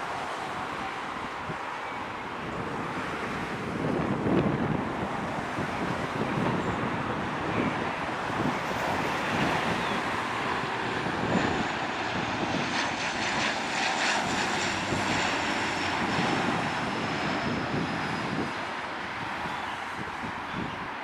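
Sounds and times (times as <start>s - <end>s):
turboprop aircraft passing: 2.4s - 21.0s.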